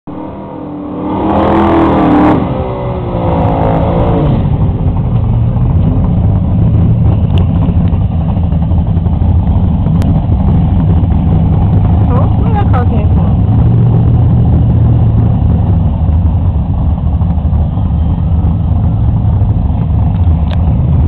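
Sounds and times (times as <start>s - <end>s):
drag racing car engine: 0.1s - 21.0s.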